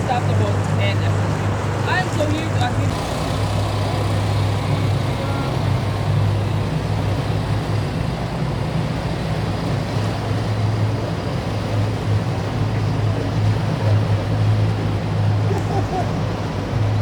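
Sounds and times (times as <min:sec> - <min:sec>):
boat engine humming: 0:00.0 - 0:17.0
wind: 0:00.0 - 0:17.0.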